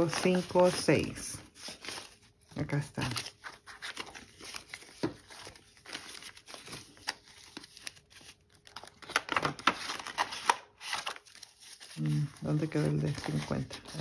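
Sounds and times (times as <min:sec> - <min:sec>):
paper banknotes rustling: 0:00.0 - 0:14.0.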